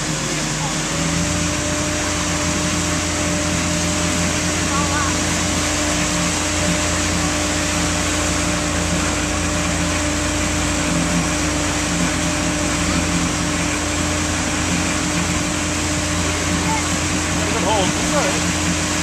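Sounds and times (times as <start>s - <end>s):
churning wake water rushing: 0.0s - 19.0s
motorboat engine drone: 0.0s - 19.0s.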